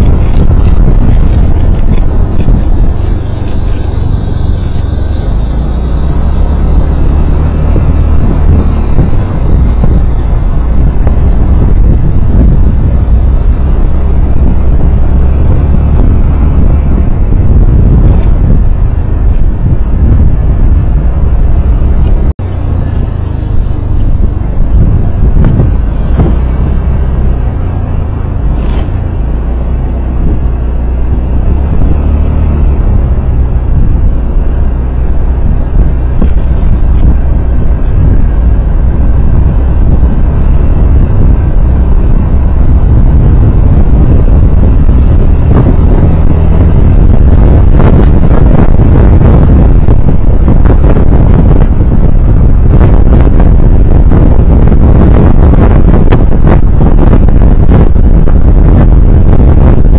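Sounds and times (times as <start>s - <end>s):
road vehicle rumble: 0.0s - 59.9s
wind buffeting microphone: 0.0s - 59.9s.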